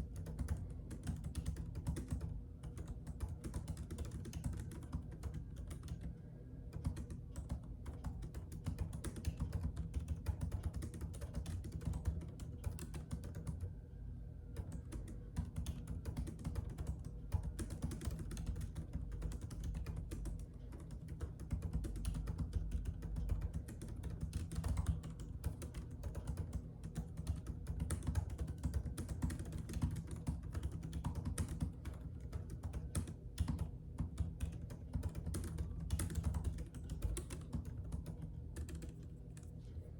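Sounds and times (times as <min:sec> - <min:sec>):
keyboard typing clicks: 0:00.0 - 0:06.1, 0:06.7 - 0:13.7, 0:14.6 - 0:39.6
steady low hum: 0:00.0 - 0:39.9.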